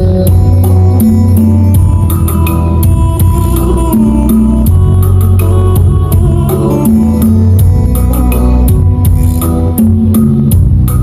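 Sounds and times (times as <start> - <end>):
song with bass guitar and drums: 0.0 - 11.0.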